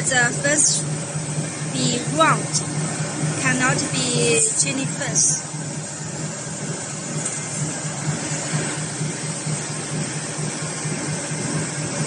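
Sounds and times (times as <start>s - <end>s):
weaving machine running: 0.0s - 12.0s.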